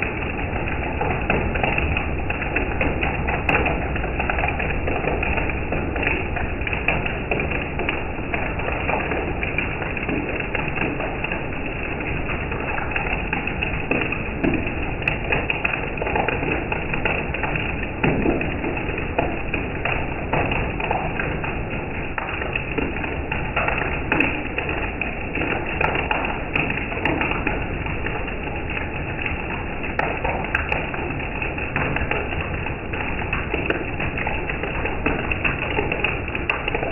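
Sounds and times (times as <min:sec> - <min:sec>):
raindrops tapping: 0:00.0 - 0:36.9
steady rain hissing: 0:00.0 - 0:36.9.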